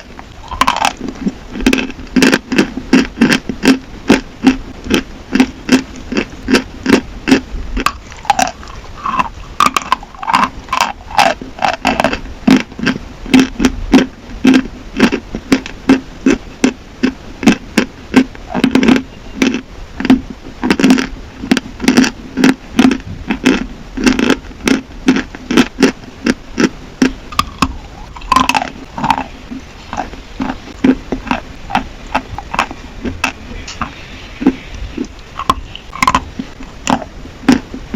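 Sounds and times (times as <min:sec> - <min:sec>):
chalk being chewed: 0:00.0 - 0:37.9.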